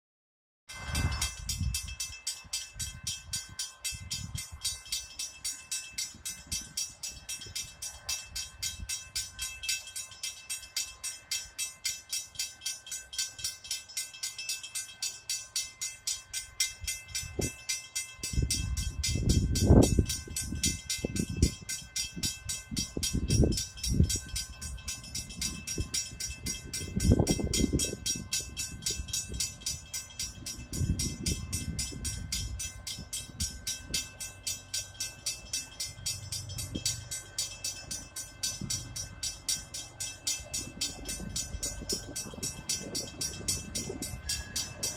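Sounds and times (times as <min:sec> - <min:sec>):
train passing with rhythmic beat: 0:00.7 - 0:44.9.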